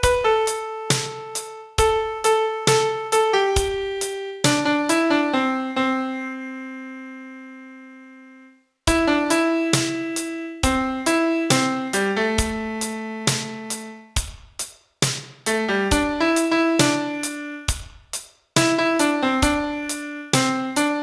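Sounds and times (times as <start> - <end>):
piano melody: 0.0 - 14.2, 15.5 - 17.8, 18.6 - 21.0.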